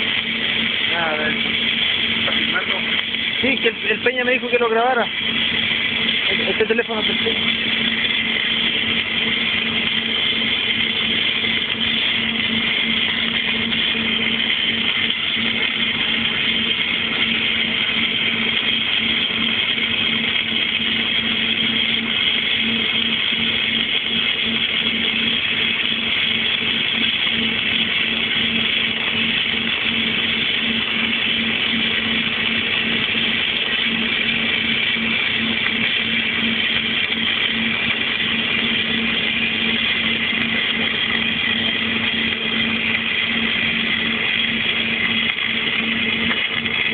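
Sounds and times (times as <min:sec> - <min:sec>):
welding arc crackling: 0:00.0 - 0:46.9
welding machine electrical hum: 0:00.0 - 0:46.9.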